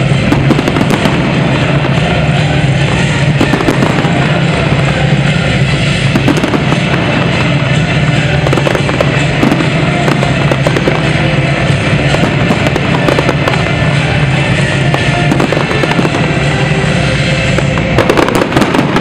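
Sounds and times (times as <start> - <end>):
fireworks crackling and popping: 0.0 - 19.0
music playing: 0.0 - 19.0.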